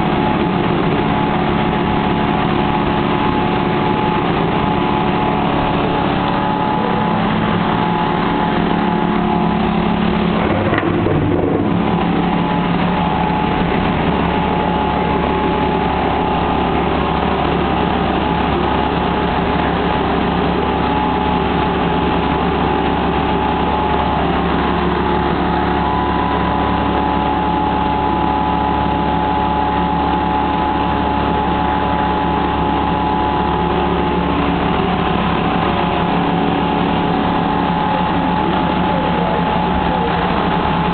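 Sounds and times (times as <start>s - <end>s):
motor droning hum: 0.0s - 40.9s.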